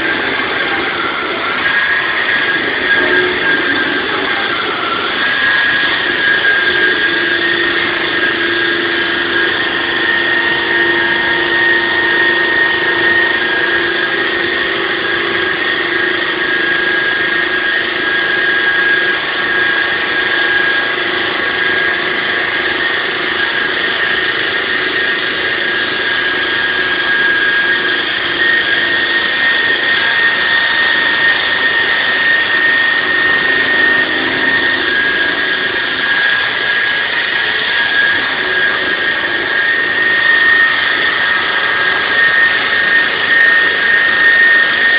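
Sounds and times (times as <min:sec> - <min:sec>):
concrete saw running: 0:00.0 - 0:44.9
high machine whine: 0:00.0 - 0:44.9.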